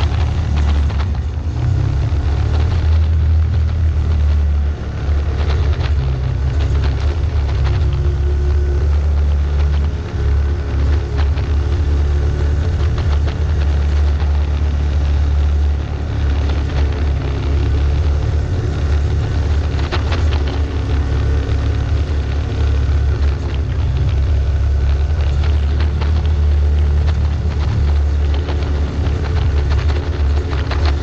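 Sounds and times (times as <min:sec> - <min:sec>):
clicks and knocks from rough road: 0:00.0 - 0:31.0
vehicle engine rumble: 0:00.0 - 0:31.0.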